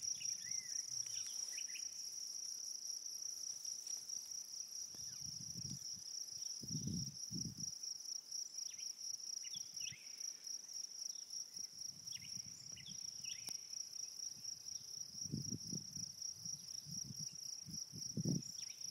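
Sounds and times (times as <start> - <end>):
high-pitched insect trill: 0.0 - 18.9.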